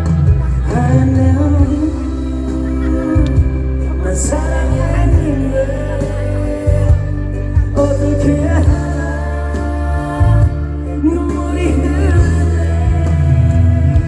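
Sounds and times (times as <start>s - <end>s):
live pop band: 0.0s - 14.0s
person singing: 0.0s - 14.0s.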